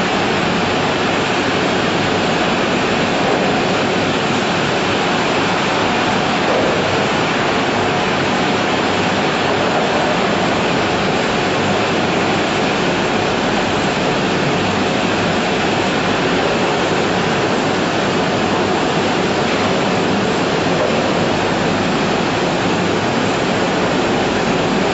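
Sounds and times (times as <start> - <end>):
processing machinery rushing: 0.0 - 24.9.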